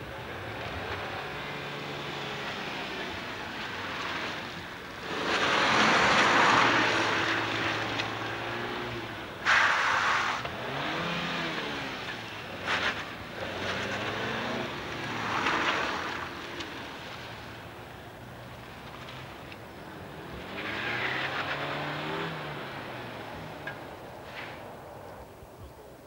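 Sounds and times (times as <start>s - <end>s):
car engine revving: 0.6s - 17.5s, 19.9s - 24.0s.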